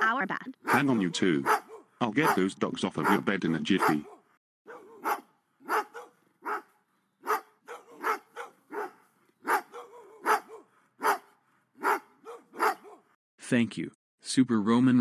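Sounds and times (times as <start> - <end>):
dog barking: 0.6 - 13.2.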